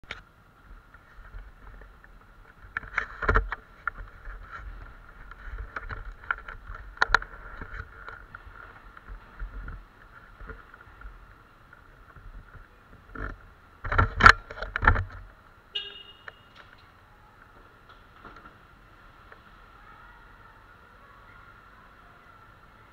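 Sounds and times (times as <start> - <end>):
motorcycle riding: 0.0 - 22.9.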